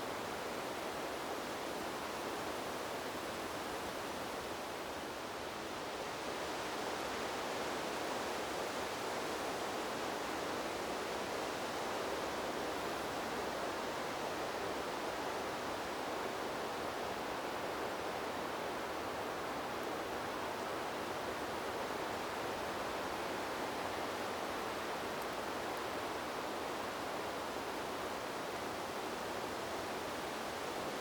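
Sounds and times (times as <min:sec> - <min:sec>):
wind rushing through trees: 0:00.0 - 0:31.0.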